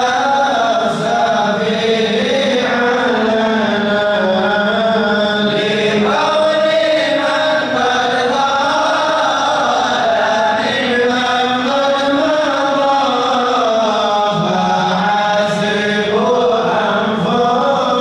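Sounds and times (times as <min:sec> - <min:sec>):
man chanting over microphone: 0:00.0 - 0:18.0.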